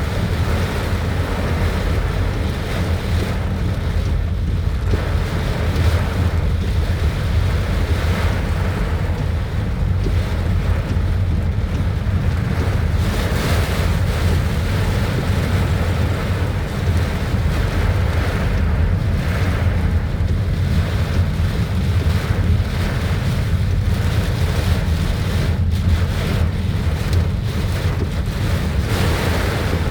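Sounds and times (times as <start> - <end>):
wind rumbling on microphone: 0.0 - 29.9.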